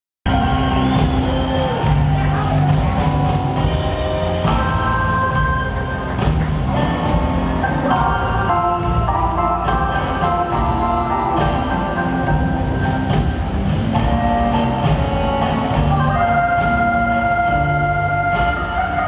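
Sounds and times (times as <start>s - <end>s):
drums steady beat: 0.2s - 19.0s
keyboards: 0.2s - 19.0s
guitar: 0.3s - 19.0s.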